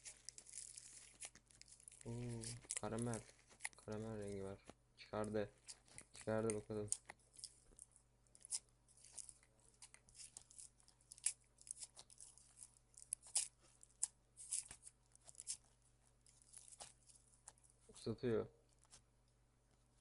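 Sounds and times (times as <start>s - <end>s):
slime crackling and popping: 0.0s - 4.5s, 5.6s - 17.6s.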